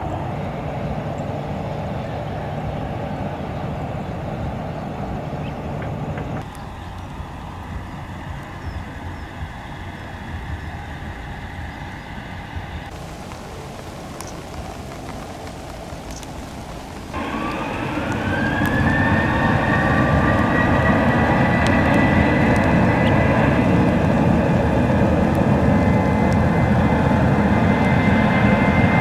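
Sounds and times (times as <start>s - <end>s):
jet engine rumble: 0.0s - 29.0s
jet engines whining: 0.0s - 29.0s.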